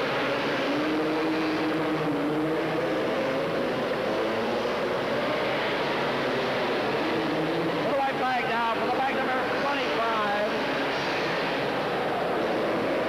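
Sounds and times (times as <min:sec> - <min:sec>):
atv engines racing: 0:00.0 - 0:13.0.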